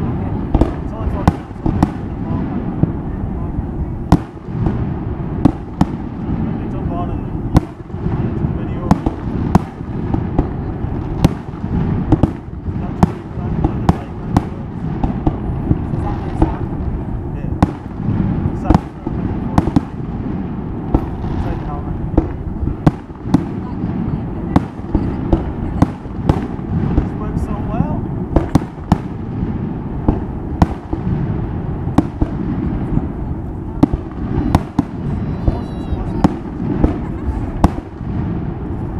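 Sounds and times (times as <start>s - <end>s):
fireworks cracks and bangs: 0.0s - 38.9s
low rumble: 0.0s - 38.9s.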